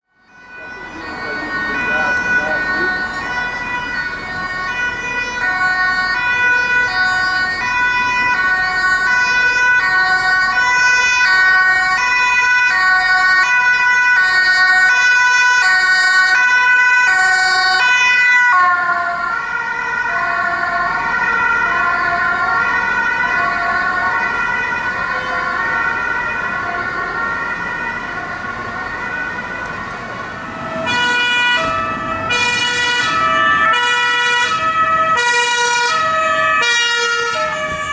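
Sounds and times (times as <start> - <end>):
road vehicle noise: 0.0 - 37.9
two-tone police siren: 0.0 - 37.9.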